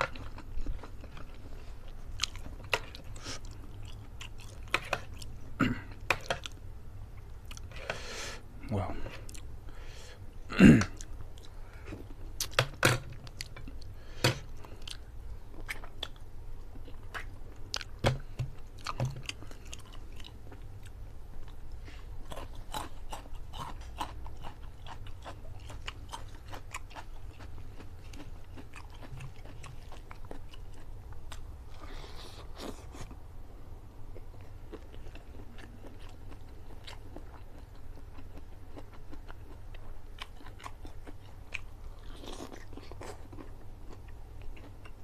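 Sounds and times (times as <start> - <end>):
man chewing food: 0.0 - 45.0.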